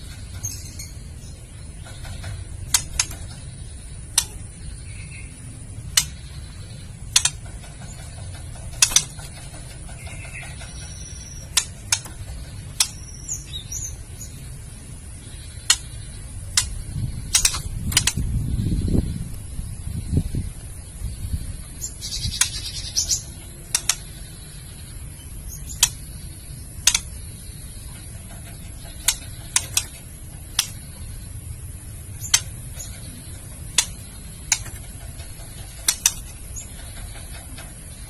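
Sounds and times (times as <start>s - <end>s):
bird harsh clicking calls: 0.0s - 38.0s.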